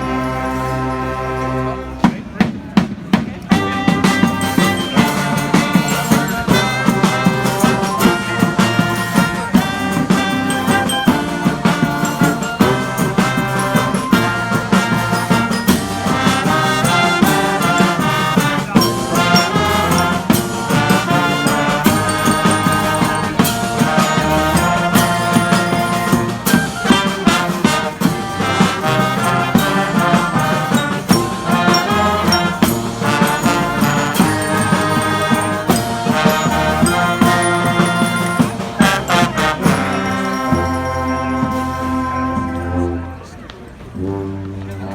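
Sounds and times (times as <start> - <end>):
brass band playing: 0.0 - 44.9
drums beating: 2.0 - 42.8.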